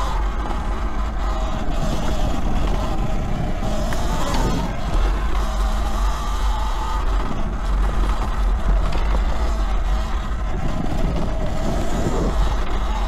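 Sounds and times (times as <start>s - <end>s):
electric motor whine: 0.0s - 13.0s
wind rumble on microphone: 0.0s - 13.0s.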